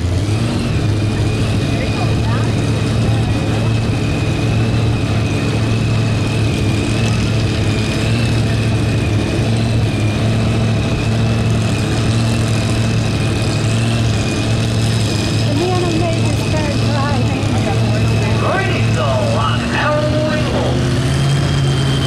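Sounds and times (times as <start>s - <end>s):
supercharger whine: 0.0s - 22.0s
tractor engine running: 0.0s - 22.0s.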